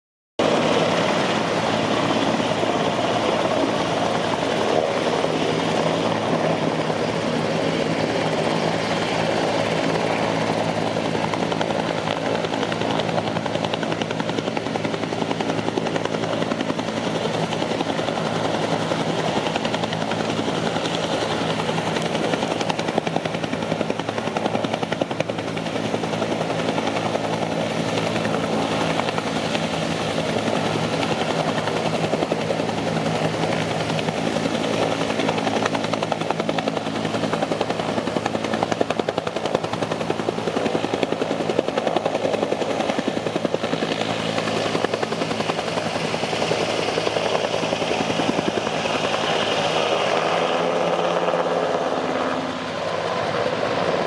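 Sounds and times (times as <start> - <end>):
helicopter hovering: 0.4 - 54.0.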